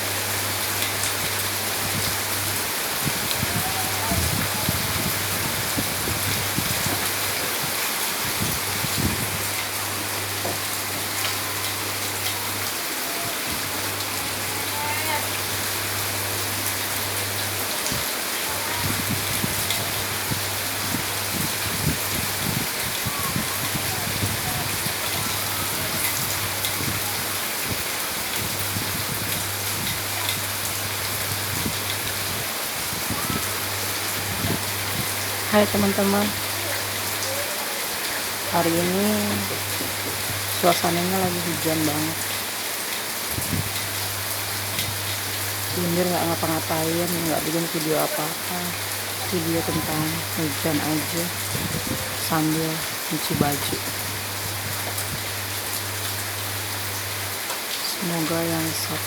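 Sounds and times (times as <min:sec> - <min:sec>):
heavy rain falling: 0:00.0 - 0:59.0
raindrops hitting surfaces: 0:00.0 - 0:59.0.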